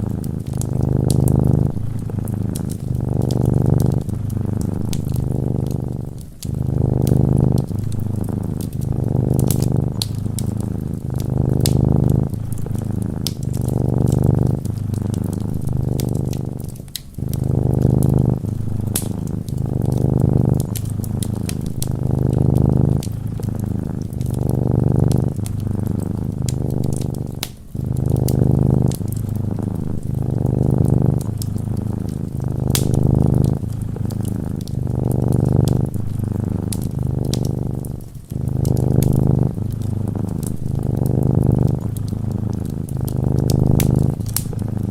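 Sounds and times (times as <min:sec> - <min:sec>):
cat purring: 0:00.0 - 0:44.9
wood fire crackling and popping: 0:00.0 - 0:44.9.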